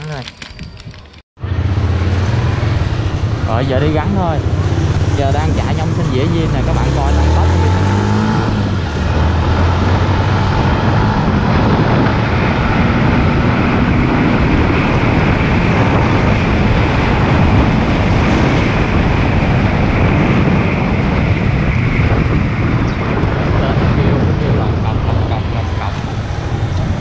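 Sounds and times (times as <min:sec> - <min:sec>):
wind rush on microphone: 0:00.0 - 0:27.0
motorcycle engine accelerating: 0:01.4 - 0:27.0.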